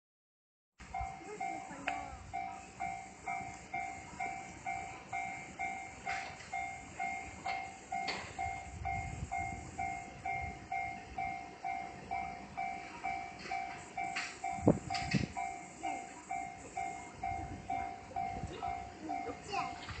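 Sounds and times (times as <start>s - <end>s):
electronic crossing warning bell dinging: 0.8s - 20.0s.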